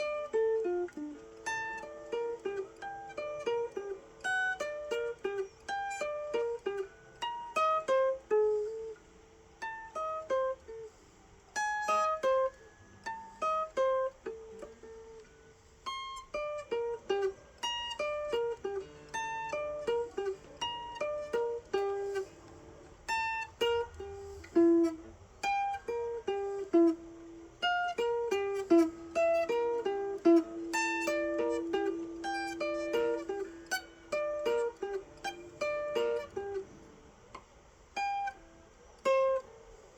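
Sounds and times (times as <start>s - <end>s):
guitar plucked notes: 0.0s - 39.9s.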